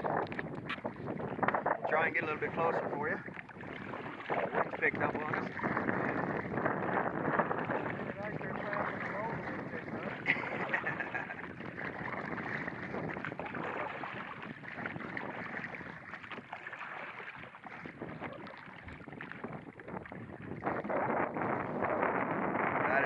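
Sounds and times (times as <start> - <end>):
water lapping against boat hull: 0.0 - 23.0
wind on microphone: 0.0 - 23.0.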